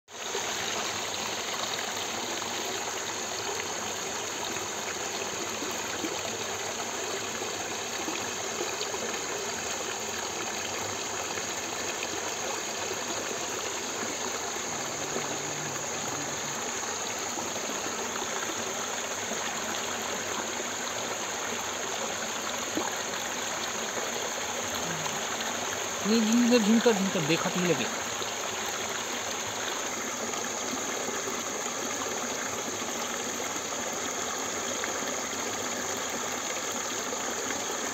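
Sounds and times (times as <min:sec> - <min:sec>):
running water: 0:00.1 - 0:37.9.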